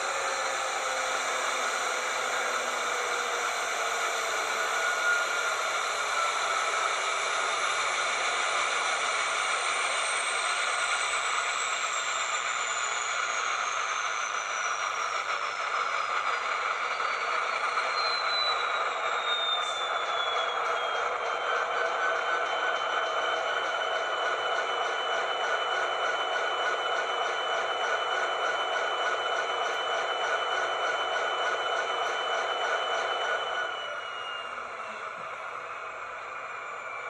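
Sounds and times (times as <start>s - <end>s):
diesel engine sound through small speaker: 0.0s - 37.0s.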